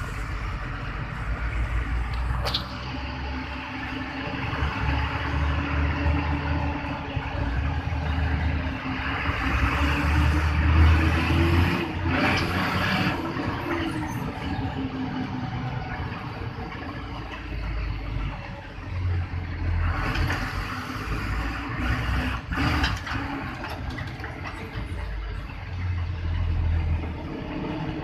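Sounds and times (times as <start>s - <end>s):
truck engine whining: 0.0s - 28.0s.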